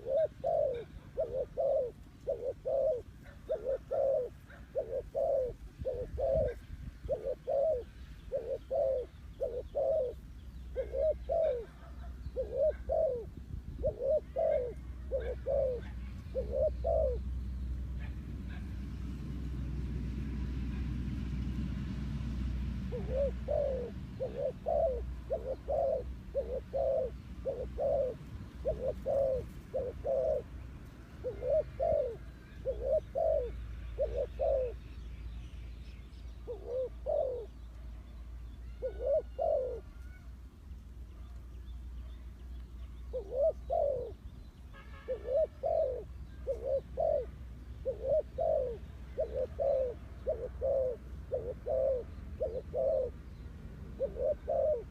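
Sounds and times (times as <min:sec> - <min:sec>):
dove cooing: 0:00.0 - 0:18.8, 0:22.8 - 0:35.0, 0:36.4 - 0:37.7, 0:38.6 - 0:40.3, 0:43.0 - 0:44.4, 0:45.0 - 0:54.9
small birds chirping: 0:00.0 - 0:18.8, 0:22.9 - 0:54.9.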